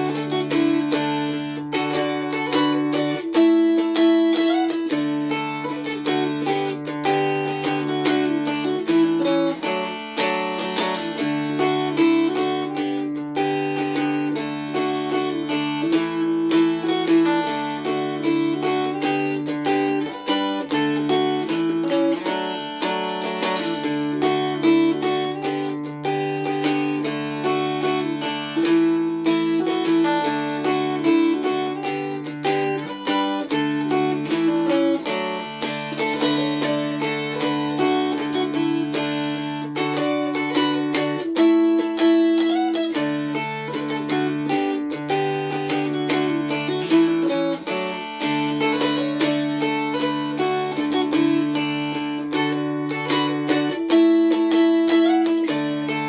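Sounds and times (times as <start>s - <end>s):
plucked dulcimer melody: 0.0s - 56.0s.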